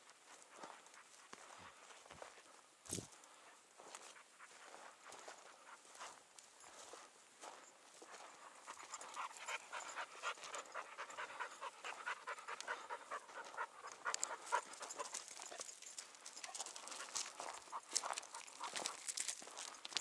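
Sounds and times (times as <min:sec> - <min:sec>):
dog panting: 0:00.4 - 0:02.4, 0:03.2 - 0:20.0.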